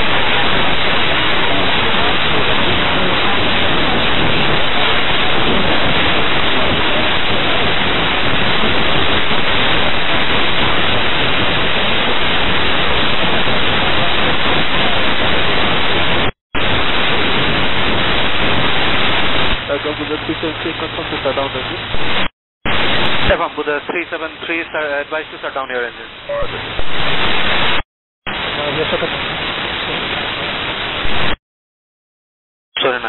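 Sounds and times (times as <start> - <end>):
radio static hiss: 0.0 - 31.4, 32.8 - 33.0.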